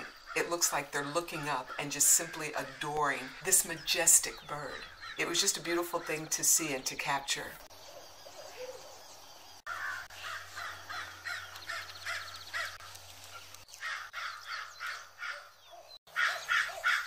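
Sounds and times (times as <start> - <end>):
birds calling: 0.0 - 17.0
high bird trill: 0.0 - 17.0.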